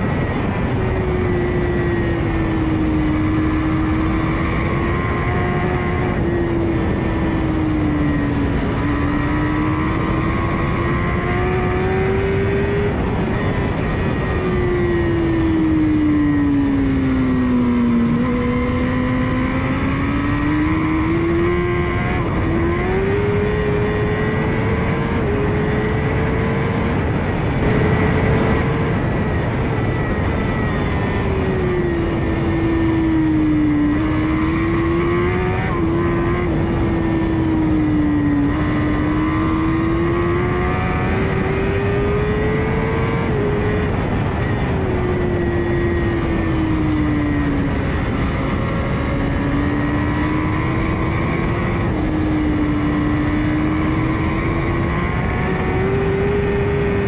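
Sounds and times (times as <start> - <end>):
motorcycle engine at racing speed: 0.0 - 57.0
wind rush: 0.0 - 57.0.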